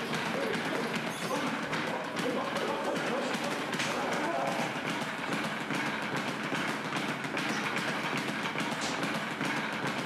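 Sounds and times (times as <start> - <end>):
speed bag rattling: 0.0 - 10.0.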